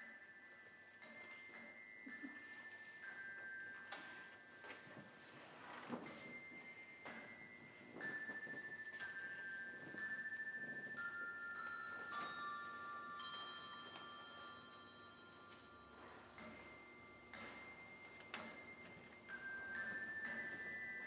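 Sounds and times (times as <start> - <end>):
handbells ringing melody: 0.0 - 21.0.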